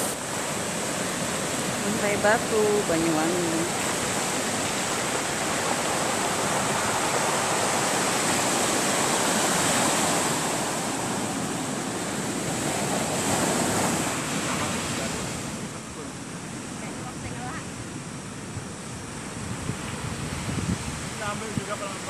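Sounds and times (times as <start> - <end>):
surf washing over stones: 0.0 - 22.0.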